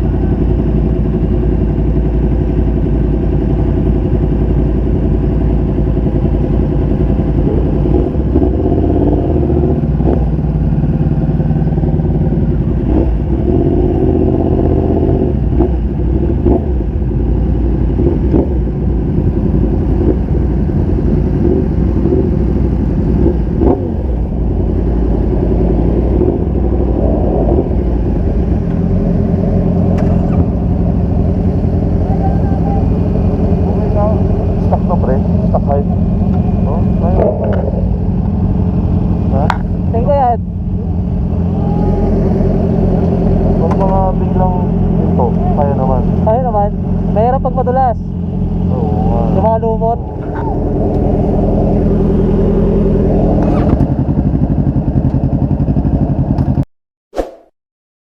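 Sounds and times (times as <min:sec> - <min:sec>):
motorcycle engine running: 0:00.0 - 0:56.6.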